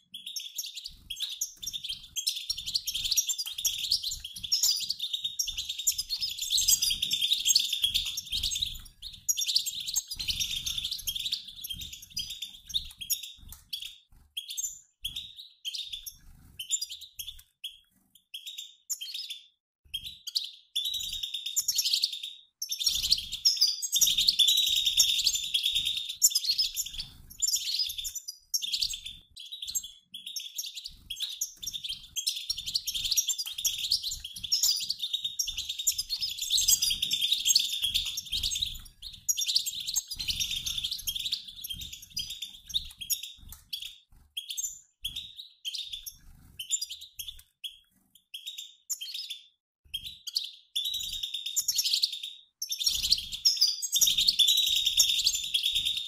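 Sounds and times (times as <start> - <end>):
finches twittering: 0.1 - 17.8, 20.0 - 47.8, 50.3 - 56.0.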